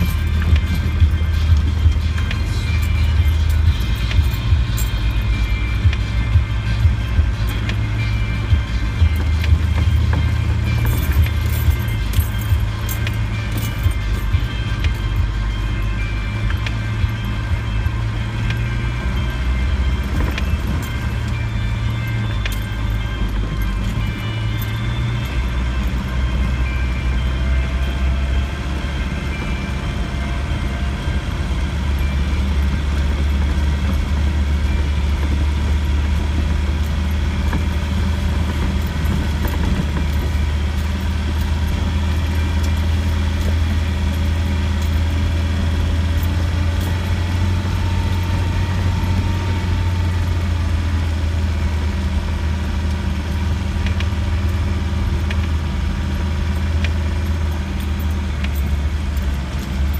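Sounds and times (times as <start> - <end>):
car engine drone inside cabin: 0.0 - 59.9
road noise: 0.0 - 59.9.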